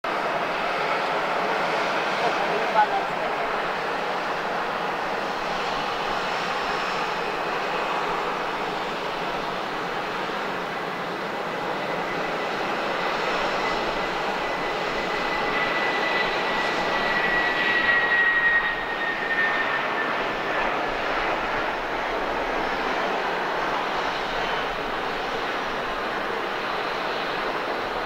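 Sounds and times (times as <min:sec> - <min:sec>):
jet engines running: 0:00.1 - 0:28.0.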